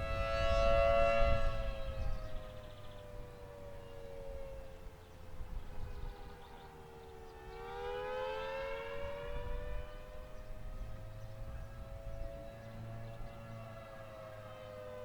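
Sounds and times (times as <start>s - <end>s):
wavering siren: 0.0s - 15.0s.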